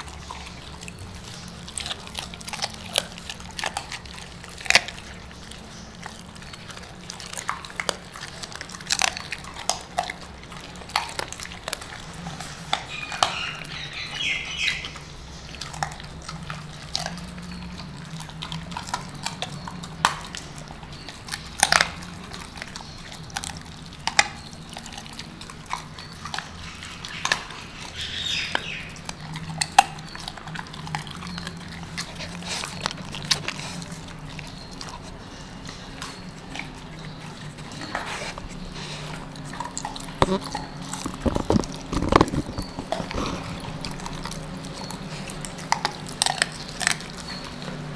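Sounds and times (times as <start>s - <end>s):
dog crunching bones: 0.0s - 47.9s.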